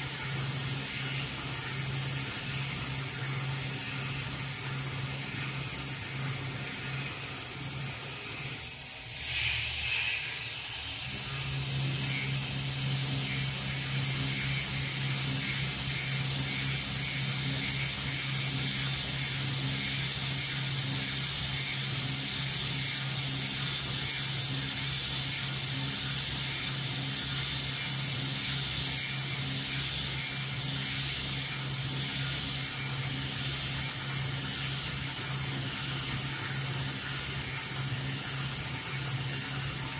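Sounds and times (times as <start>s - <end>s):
coolant nozzle hiss: 0.0s - 39.9s
high steady whine: 0.0s - 39.9s
milling spindle hum: 0.0s - 39.9s.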